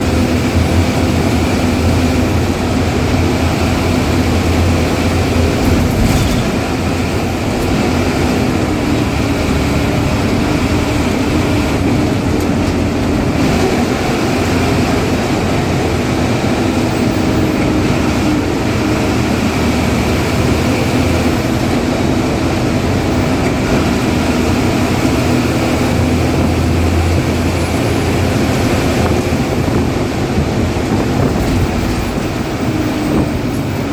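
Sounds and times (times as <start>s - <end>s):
bus diesel engine running: 0.0s - 33.9s
heavy road rumble: 0.0s - 33.9s.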